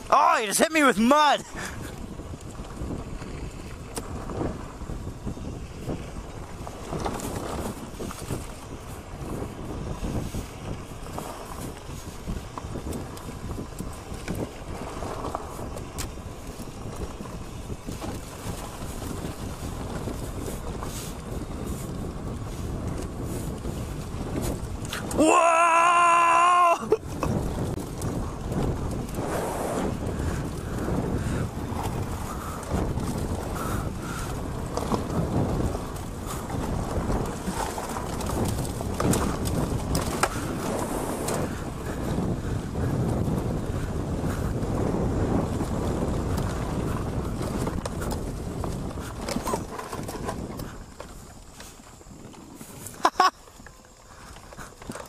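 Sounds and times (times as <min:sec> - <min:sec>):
tyres rumbling over dirt trail: 0:00.0 - 0:55.0
wind buffeting microphone: 0:00.0 - 0:55.0
bike knocks and rattles: 0:02.5 - 0:25.2, 0:30.0 - 0:53.3.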